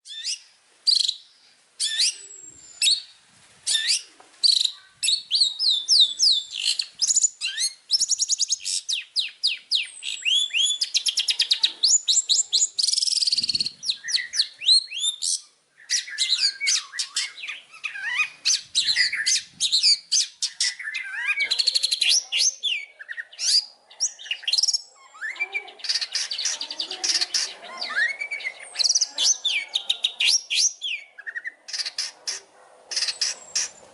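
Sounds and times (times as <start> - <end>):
bird singing varied song: 0.0 - 33.9.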